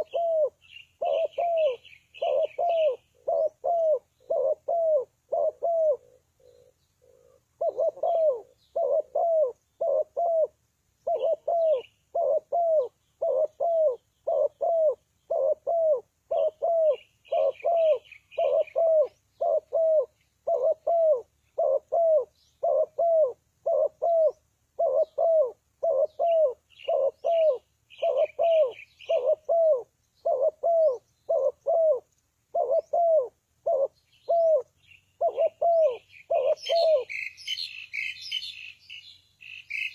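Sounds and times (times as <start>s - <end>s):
dove cooing: 0.0s - 38.5s
small birds chirping: 0.0s - 39.9s.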